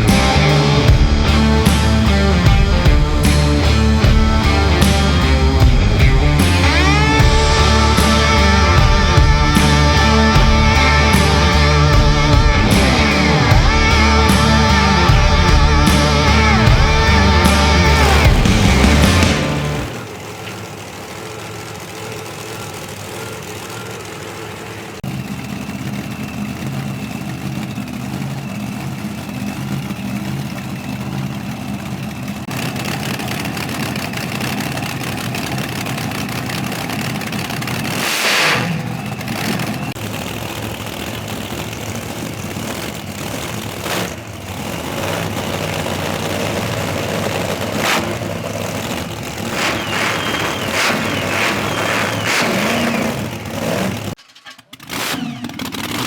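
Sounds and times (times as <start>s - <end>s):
drag car engine running: 0.0s - 56.0s.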